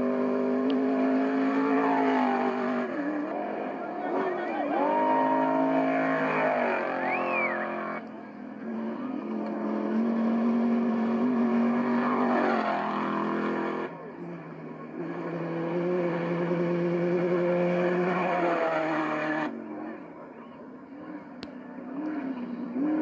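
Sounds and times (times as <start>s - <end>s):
truck engines speeding past: 0.0s - 23.0s.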